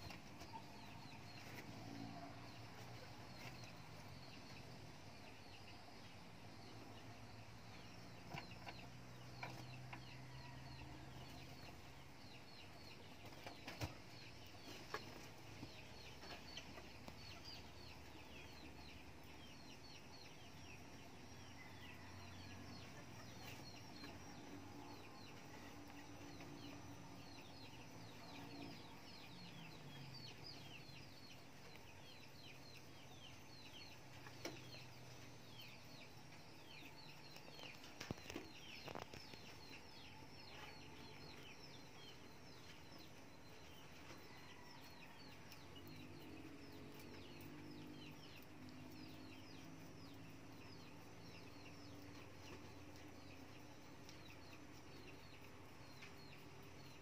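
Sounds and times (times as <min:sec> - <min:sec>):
dense bird chirping: 0:00.0 - 0:57.0.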